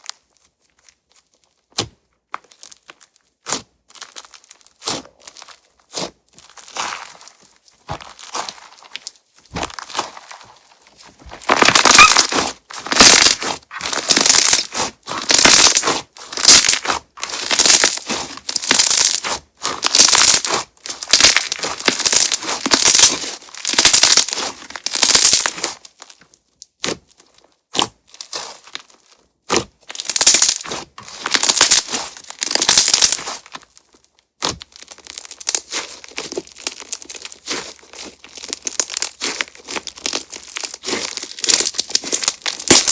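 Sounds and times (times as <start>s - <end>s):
slime crackling when squeezed: 4.0s - 26.0s, 29.6s - 33.8s, 34.4s - 42.9s.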